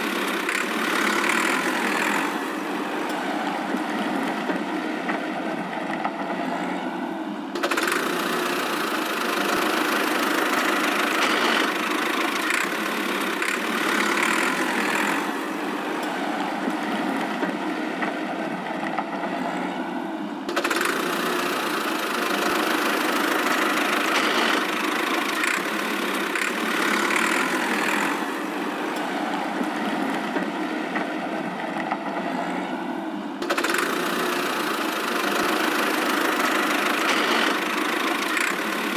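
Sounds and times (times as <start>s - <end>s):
cartoon vehicle engine: 0.0s - 38.9s.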